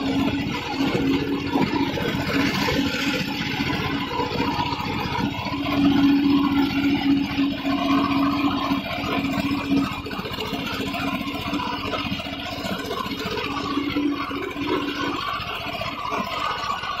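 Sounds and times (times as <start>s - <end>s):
diesel tractor engine under load: 0.0s - 17.0s.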